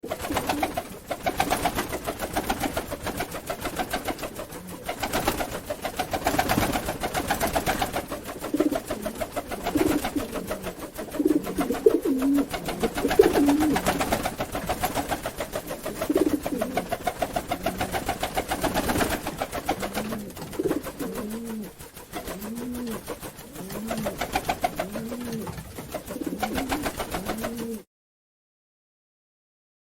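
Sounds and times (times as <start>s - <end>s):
pigeon wings flapping: 0.0s - 27.9s
pigeons cooing: 0.1s - 2.9s, 3.6s - 14.7s, 15.5s - 27.8s.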